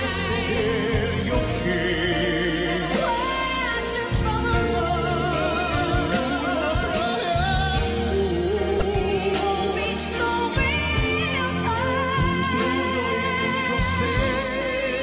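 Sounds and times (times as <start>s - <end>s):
band with bass and drums: 0.0s - 15.0s.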